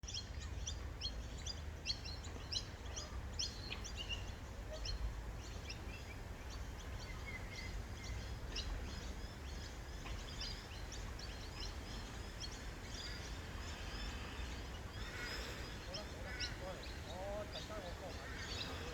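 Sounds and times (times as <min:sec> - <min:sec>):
birds chirping: 0:00.1 - 0:18.9.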